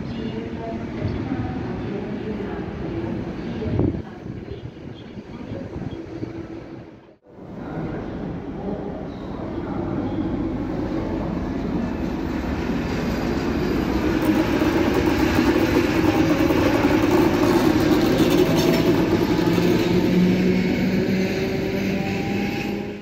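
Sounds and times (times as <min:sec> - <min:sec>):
diesel locomotive engine drone: 0:00.0 - 0:23.0
rail noise: 0:00.0 - 0:23.0.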